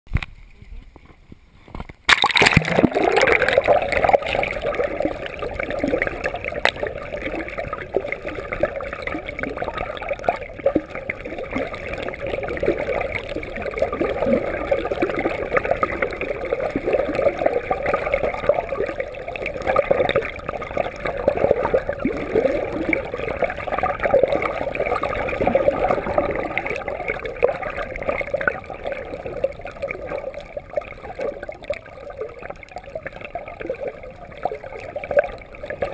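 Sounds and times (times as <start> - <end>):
water gurgling and sloshing: 0.1 - 35.9.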